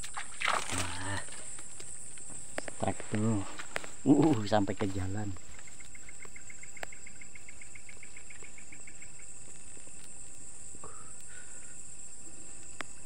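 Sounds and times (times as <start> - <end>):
insect pulsed chirping: 0.0 - 13.0
night insects shrill drone: 0.0 - 13.0
short high insect calls: 0.0 - 13.0.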